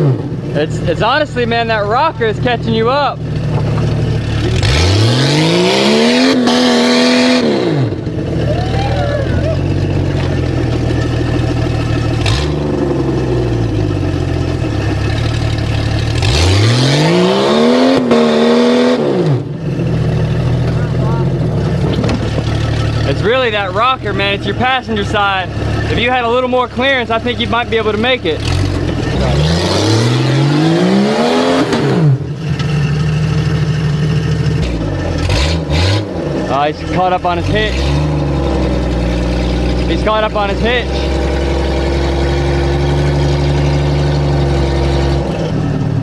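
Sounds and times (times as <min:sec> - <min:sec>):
vehicle engine revving: 0:00.0 - 0:46.0.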